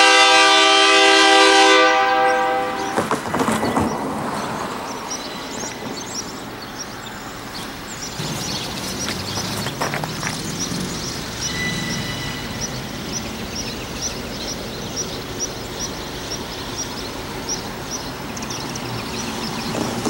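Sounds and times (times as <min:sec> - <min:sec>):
diesel locomotive engine rumbling: 0:00.0 - 0:20.0
bird chirping rapidly: 0:03.6 - 0:20.0.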